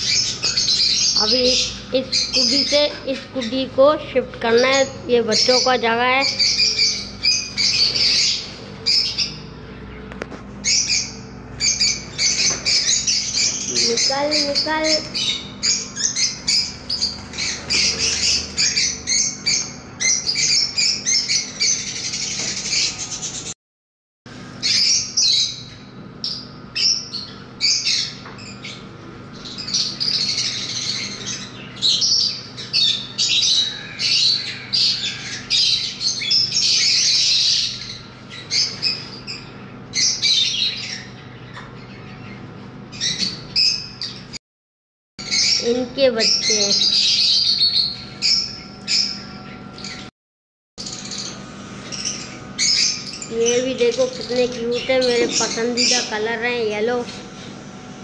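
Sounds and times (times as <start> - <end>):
lovebirds chirping and squawking: 0.0 - 23.6, 24.3 - 44.4, 45.2 - 50.1, 50.8 - 58.0.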